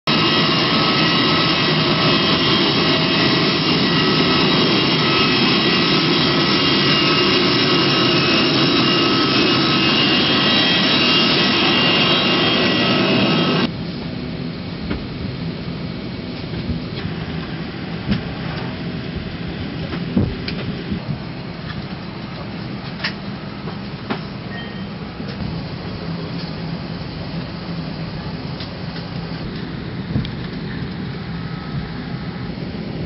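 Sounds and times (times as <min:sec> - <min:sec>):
airliner cabin air hum: 0:00.1 - 0:33.0
jet turbine whine and rush: 0:00.1 - 0:33.0.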